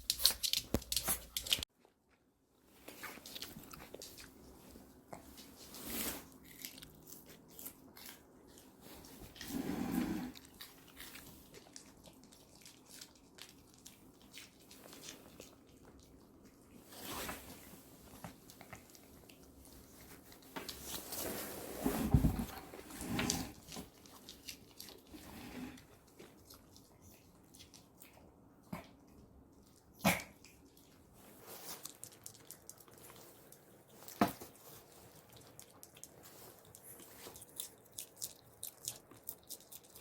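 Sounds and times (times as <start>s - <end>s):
dog chewing and crunching vegetables: 0.0s - 1.9s, 2.7s - 21.6s, 22.8s - 40.0s.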